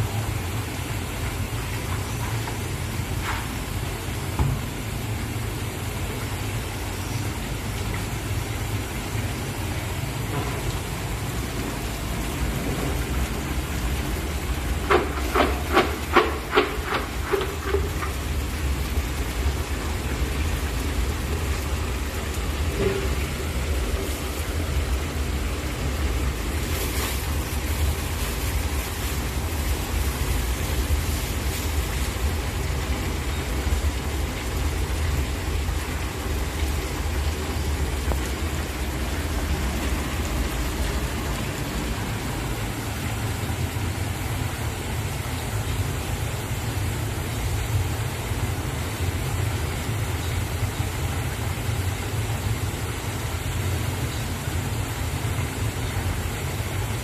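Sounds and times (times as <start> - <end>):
meat and carrots frying in oil: 0.0 - 57.0.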